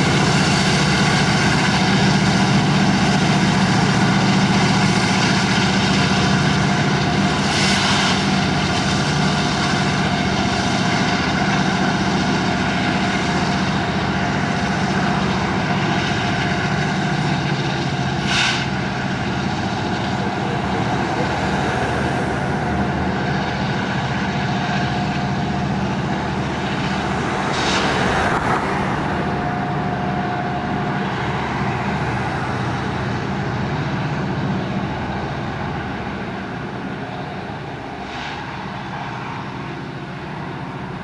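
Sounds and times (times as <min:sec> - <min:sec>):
diesel locomotive engine drone: 0:00.0 - 0:41.0
rushing swell: 0:00.0 - 0:41.0.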